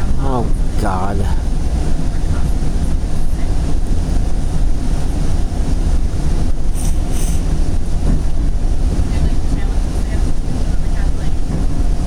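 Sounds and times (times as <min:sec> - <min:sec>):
train wheels rolling on rails: 0:00.0 - 0:12.0.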